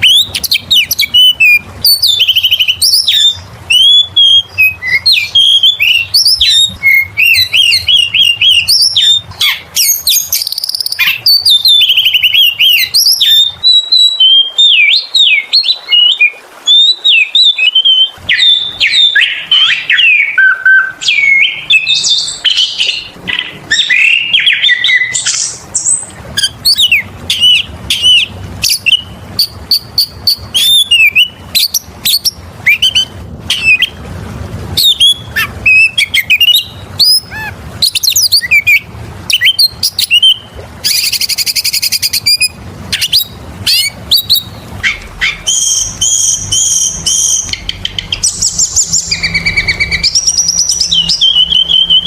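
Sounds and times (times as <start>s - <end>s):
bird singing whistled notes: 0.0s - 34.0s, 34.8s - 52.0s.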